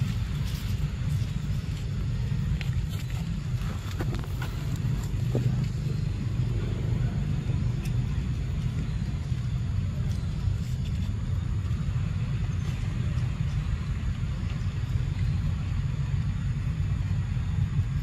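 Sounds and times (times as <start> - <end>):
faint rustles: 0.0 - 15.4
low rumbling noise: 0.0 - 18.0.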